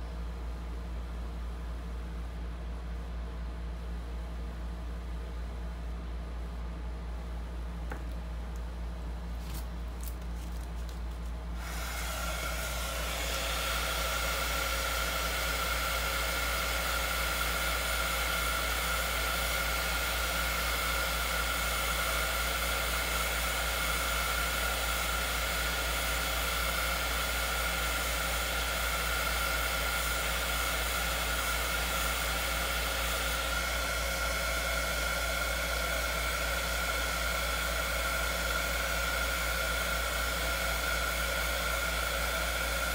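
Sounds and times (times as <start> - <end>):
heat gun fan whine: 0.0 - 42.9.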